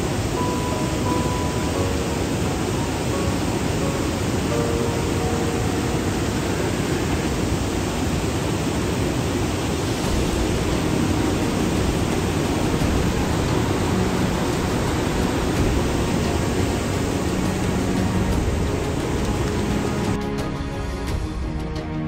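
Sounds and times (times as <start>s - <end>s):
mountain stream rushing over boulders: 0.0s - 22.0s.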